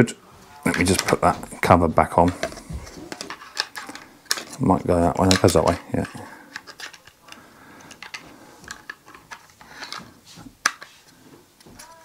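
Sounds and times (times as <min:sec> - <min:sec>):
plastic cover scraping and rubbing: 0:00.6 - 0:12.0
plastic clicks: 0:00.7 - 0:01.5, 0:02.2 - 0:10.9, 0:11.6 - 0:12.0.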